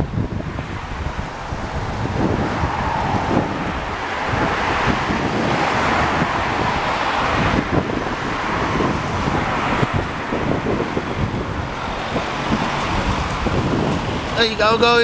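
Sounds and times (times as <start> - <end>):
cars passing close by: 0.0 - 15.0
wind buffeting microphone: 0.0 - 15.0.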